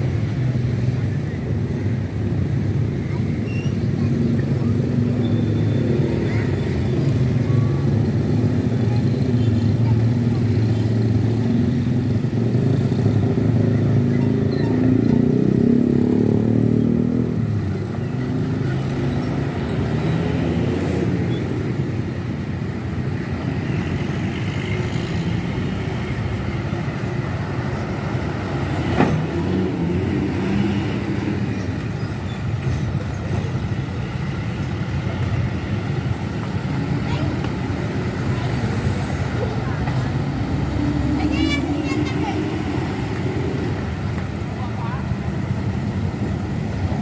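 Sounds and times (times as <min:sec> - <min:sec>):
diesel engine rumbling: 0:00.0 - 0:47.0
traffic noise: 0:00.0 - 0:47.0.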